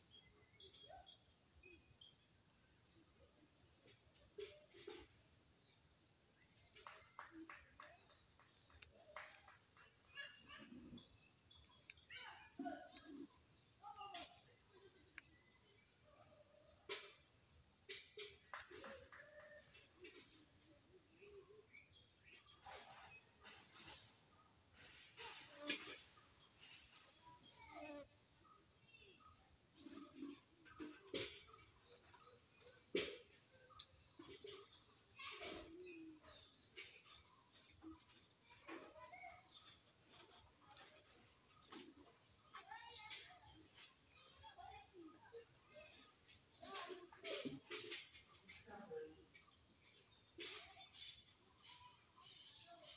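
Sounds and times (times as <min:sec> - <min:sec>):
insects chorus: 0:00.0 - 0:52.9.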